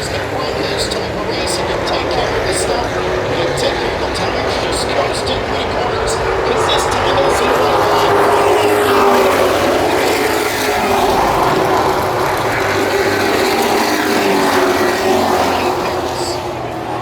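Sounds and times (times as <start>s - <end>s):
racing truck engines: 0.0s - 17.0s.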